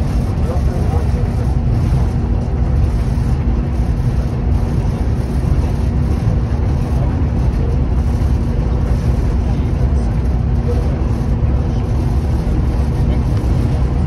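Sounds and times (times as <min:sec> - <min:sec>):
constant low hum: 0:00.0 - 0:14.0
train rumbling at speed: 0:00.0 - 0:14.0.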